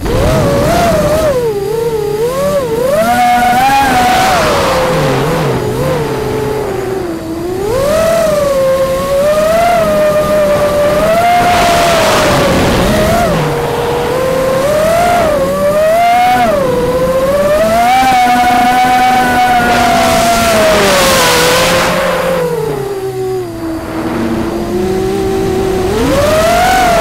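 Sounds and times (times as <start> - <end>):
wind noise on microphone: 0.0 - 6.0, 6.7 - 27.0
quadcopter motors whining: 0.0 - 27.0.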